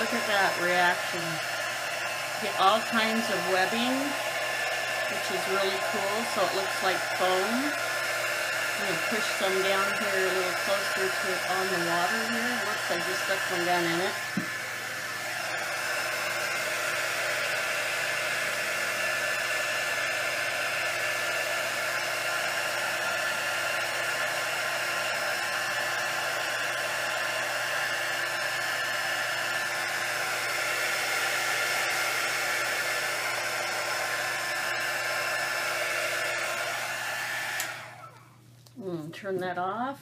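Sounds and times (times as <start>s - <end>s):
heat gun whirring: 0.0s - 38.4s.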